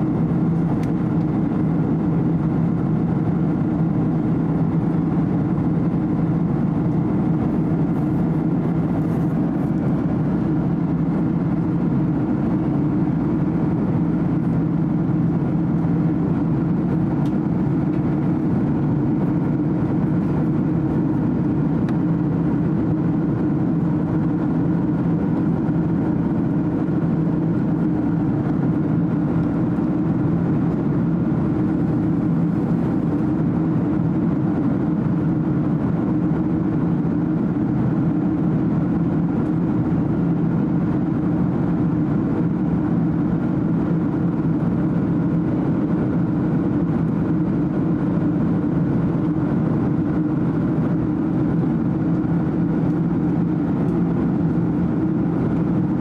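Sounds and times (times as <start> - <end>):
jet engine drone in cabin: 0.0 - 56.0.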